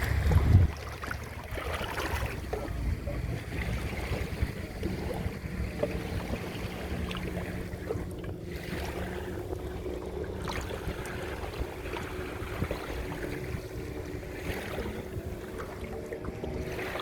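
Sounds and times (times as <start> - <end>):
distant boat engine: 0.0 - 17.0
water noise: 0.0 - 17.0
wind: 0.0 - 17.0.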